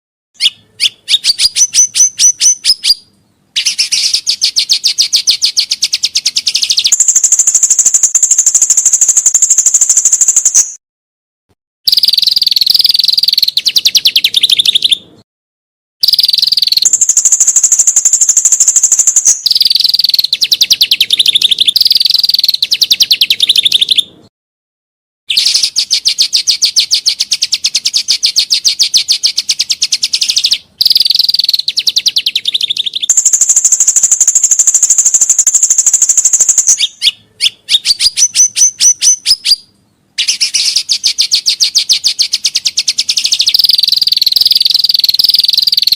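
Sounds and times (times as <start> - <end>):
songbird singing shrill notes: 0.4 - 10.8, 11.9 - 15.2, 16.0 - 24.3, 25.3 - 45.9.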